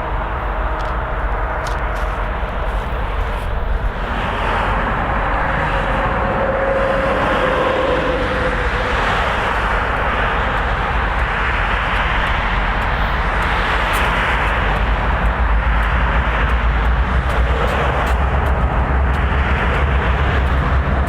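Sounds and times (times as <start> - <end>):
low hum: 0.0 - 21.0
train wheels on rail: 0.0 - 21.0.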